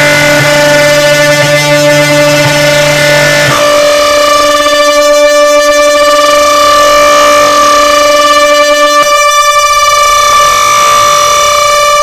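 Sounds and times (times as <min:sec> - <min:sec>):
horn-like tone from speakers: 0:00.0 - 0:12.0.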